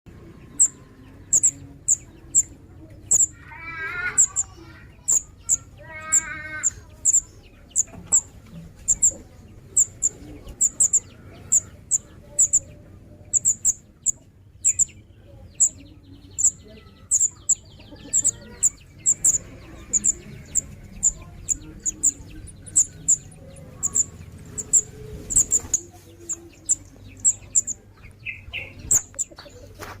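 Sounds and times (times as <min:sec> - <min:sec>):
young songbird chirping: 0:00.2 - 0:29.9.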